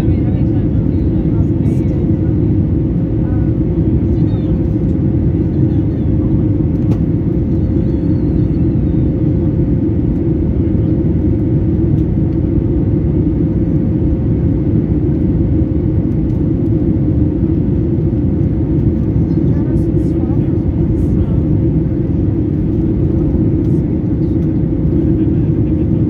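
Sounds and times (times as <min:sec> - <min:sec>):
jet engines droning: 0:00.0 - 0:26.0.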